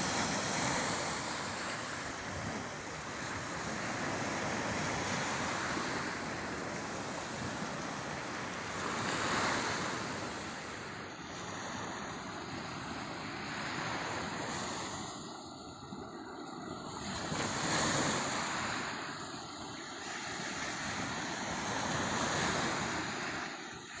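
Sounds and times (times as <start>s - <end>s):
ocean waves breaking: 0.0s - 24.0s.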